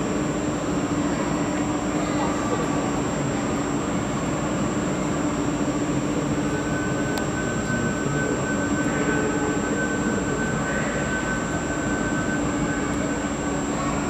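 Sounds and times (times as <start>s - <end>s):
crane mechanical hum and rumble: 0.0s - 14.0s
high steady whine: 0.0s - 14.0s.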